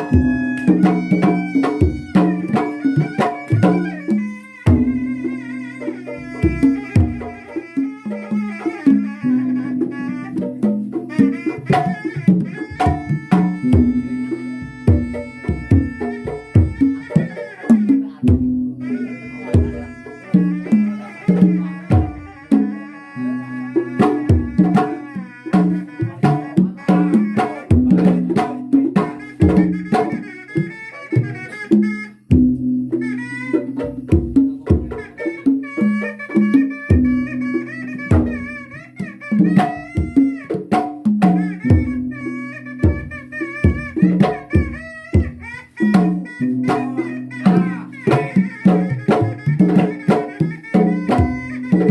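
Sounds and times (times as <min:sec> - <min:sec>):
hand drums playing: 0:00.0 - 0:51.9
wavering high melody: 0:00.0 - 0:51.9.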